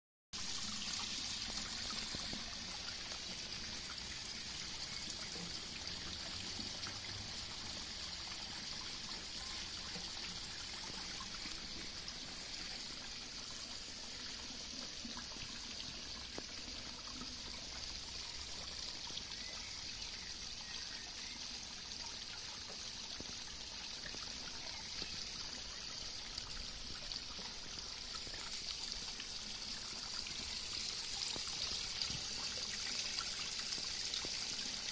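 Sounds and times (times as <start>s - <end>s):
water pouring into a pond: 0.4s - 34.9s.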